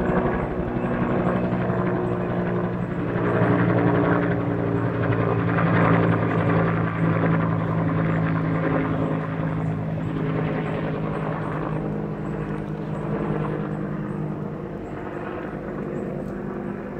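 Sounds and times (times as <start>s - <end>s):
helicopter flying past: 0.0s - 16.9s.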